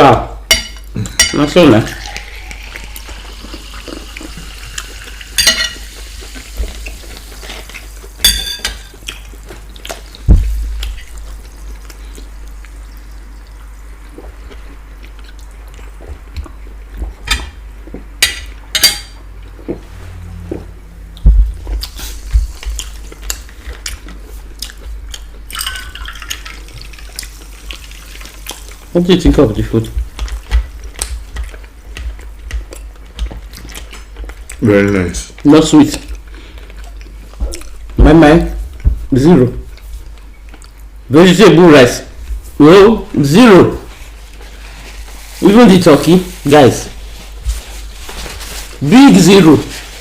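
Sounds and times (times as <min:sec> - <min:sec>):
steady low hum: 0:00.1 - 0:48.9.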